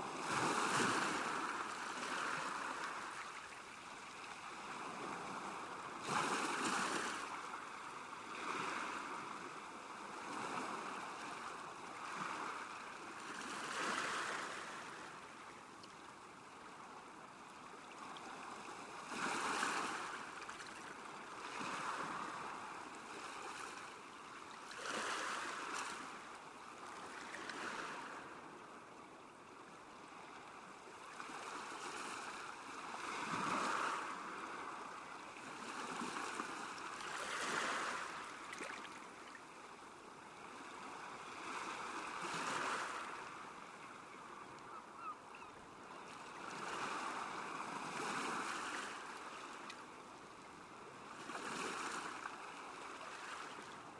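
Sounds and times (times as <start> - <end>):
lake waves lapping at shore: 0.0 - 28.6, 30.0 - 53.9.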